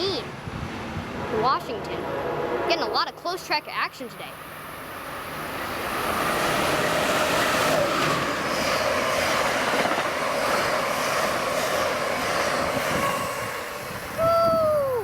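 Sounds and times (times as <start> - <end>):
train wheels rushing on rails: 0.3 - 14.8.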